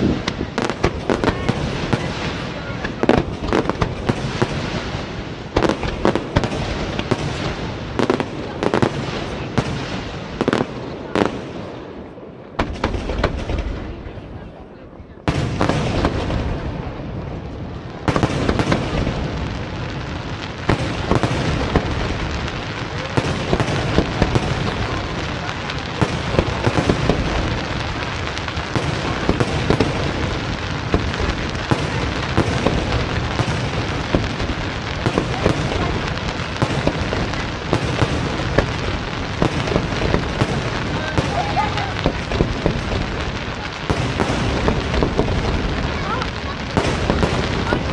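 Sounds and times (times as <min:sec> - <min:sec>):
rumble and crackle of fireworks: 0:00.0 - 0:47.9.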